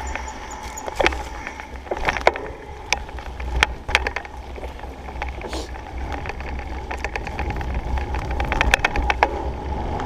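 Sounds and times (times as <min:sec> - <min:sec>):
bike rattling clicks and knocks: 0:00.0 - 0:10.0
low wind rumble on microphone: 0:00.0 - 0:10.0.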